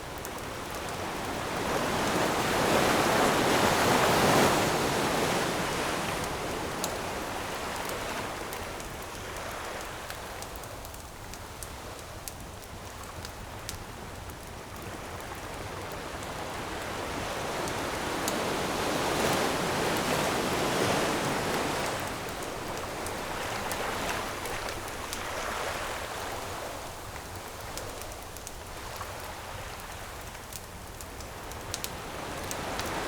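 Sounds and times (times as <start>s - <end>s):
ocean waves: 0.0s - 10.3s, 14.9s - 30.4s, 31.6s - 33.0s
campfire crackling: 0.0s - 33.0s.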